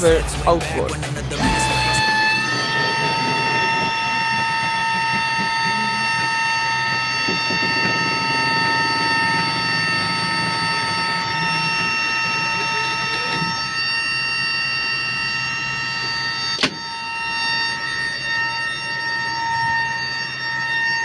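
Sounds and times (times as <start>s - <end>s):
aircraft machinery whine: 0.0s - 21.0s
low hum: 0.0s - 21.0s.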